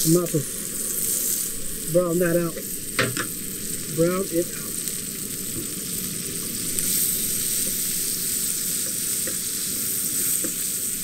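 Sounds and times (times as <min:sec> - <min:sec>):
tomatoes and garlic sizzling in pan: 0:00.0 - 0:11.0.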